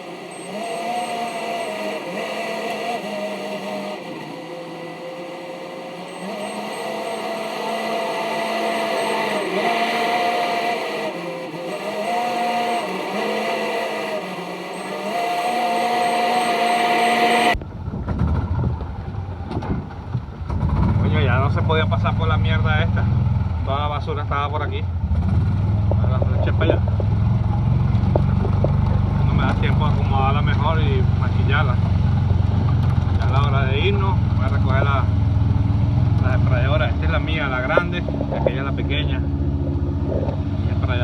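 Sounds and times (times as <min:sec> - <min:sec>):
track loader diesel engine: 0:00.0 - 0:41.0.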